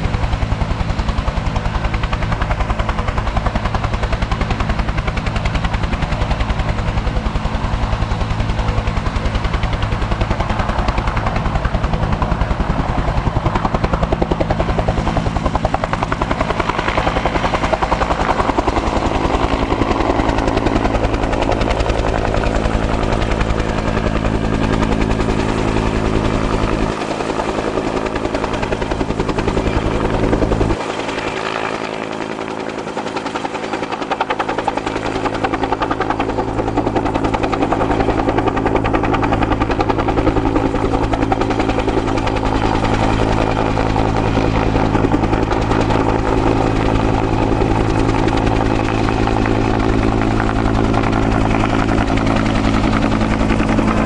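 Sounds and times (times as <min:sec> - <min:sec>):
helicopter flying overhead: 0:00.0 - 0:54.0.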